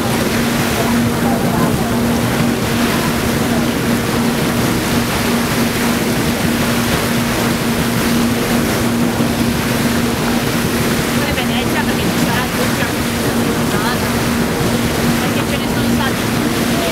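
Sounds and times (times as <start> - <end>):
ferry engine humming: 0.0 - 16.9
water rushing along hull: 0.0 - 16.9.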